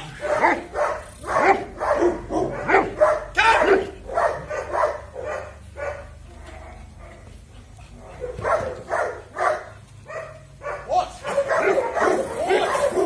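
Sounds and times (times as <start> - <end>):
dog barking: 0.2 - 7.3, 8.0 - 13.0.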